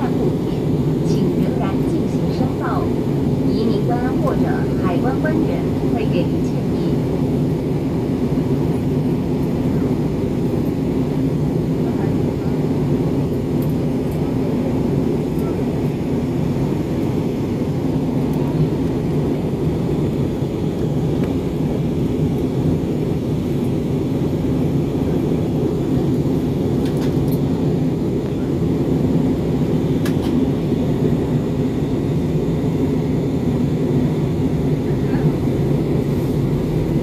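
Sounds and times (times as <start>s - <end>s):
airliner cabin engine rush: 0.0s - 37.0s.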